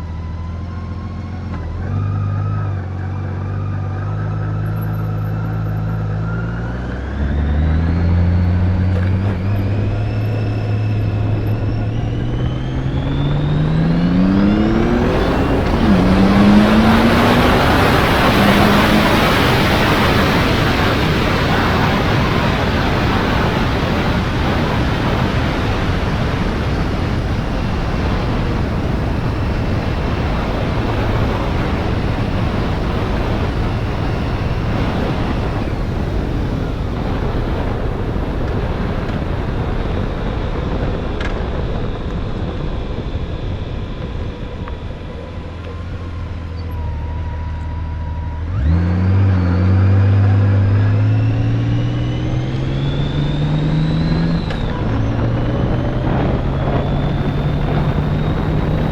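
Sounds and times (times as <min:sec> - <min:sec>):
motorcycle engine accelerating: 0:00.0 - 0:58.9
road noise: 0:00.0 - 0:58.9
wind noise: 0:04.1 - 0:58.9.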